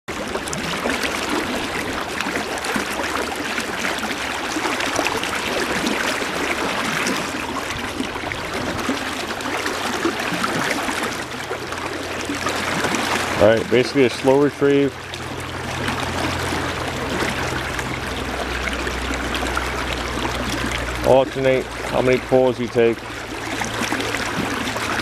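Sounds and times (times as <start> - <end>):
river rushing: 0.1 - 25.0.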